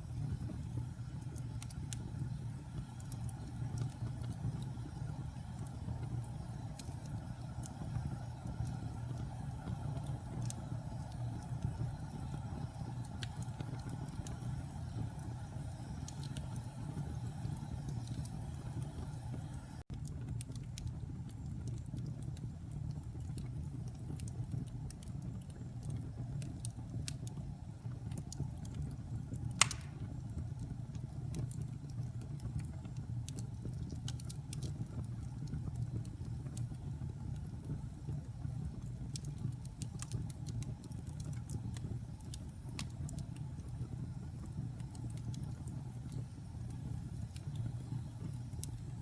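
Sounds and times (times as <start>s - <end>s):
fire crackles and pops: 0.0s - 49.0s
wood fire rumbling: 0.0s - 49.0s.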